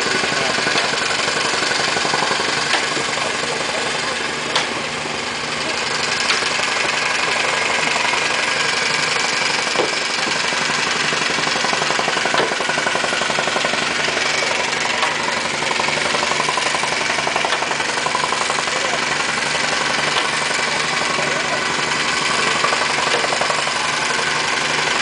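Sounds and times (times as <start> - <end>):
engine running with regular pulse: 0.0 - 25.0.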